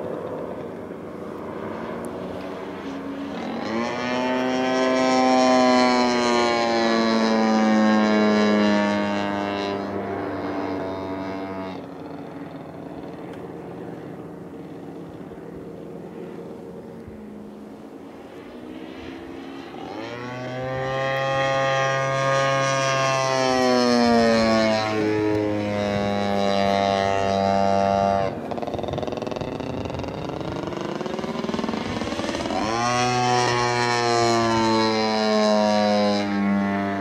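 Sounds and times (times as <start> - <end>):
propeller plane flying overhead: 0.0 - 37.0.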